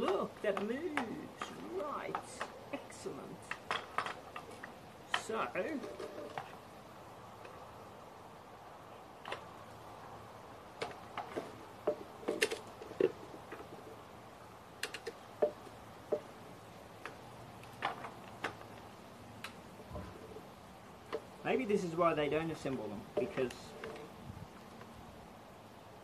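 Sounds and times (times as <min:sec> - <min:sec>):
mower parts clicking and knocking: 0:00.0 - 0:06.7, 0:07.3 - 0:07.7, 0:09.2 - 0:09.6, 0:10.7 - 0:14.0, 0:14.7 - 0:25.1
faint steady hum: 0:00.0 - 0:26.0.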